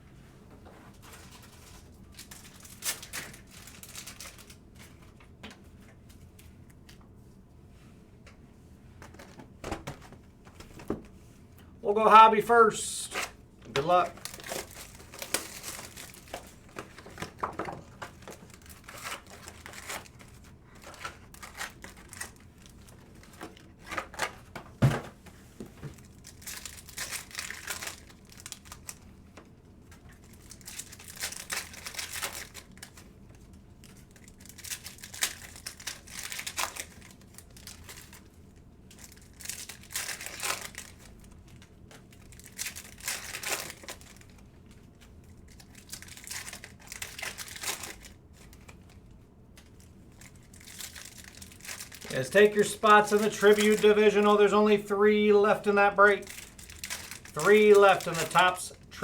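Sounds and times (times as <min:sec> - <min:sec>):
plastic wrappers crinkling and tearing: 0:01.0 - 0:05.3, 0:13.0 - 0:24.6, 0:25.9 - 0:59.0.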